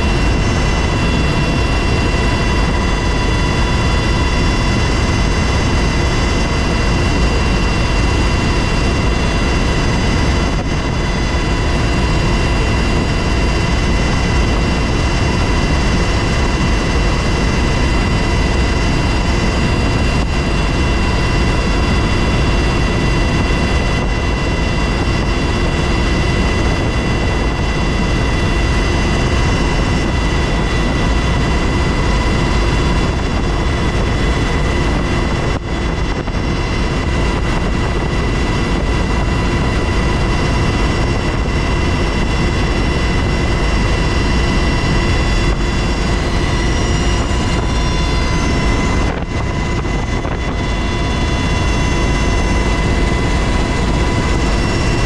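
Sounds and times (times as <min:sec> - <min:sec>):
helicopter cabin engine and rotor din: 0:00.0 - 0:55.0
high-pitched turbine whine: 0:00.0 - 0:55.0.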